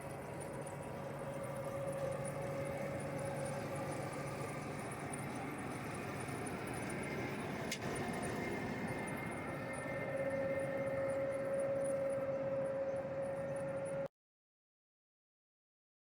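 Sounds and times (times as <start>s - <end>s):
combine harvester droning: 0.0s - 14.1s.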